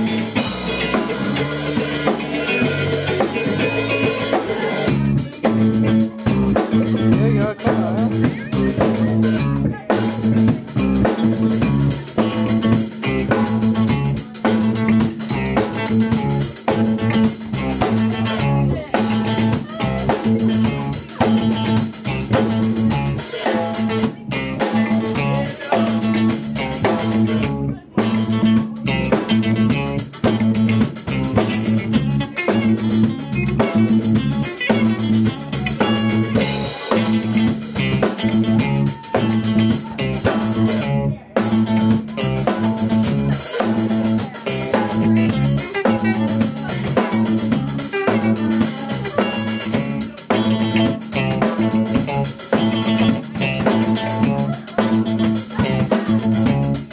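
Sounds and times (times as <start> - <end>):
band playing live: 0.0 - 56.9.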